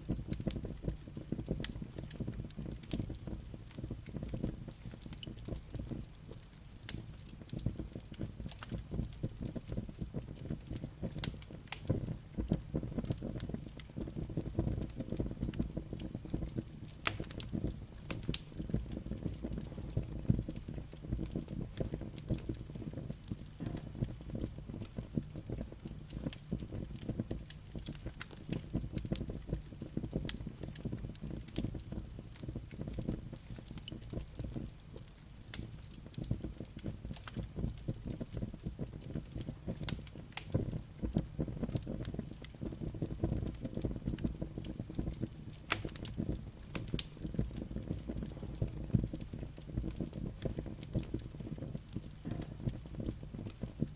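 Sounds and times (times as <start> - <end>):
wood fire burning: 0.0 - 53.9.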